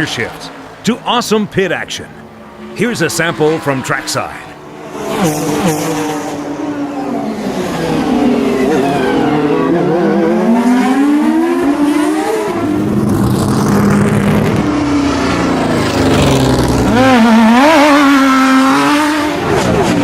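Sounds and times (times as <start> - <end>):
race car engines passing: 0.0 - 20.0.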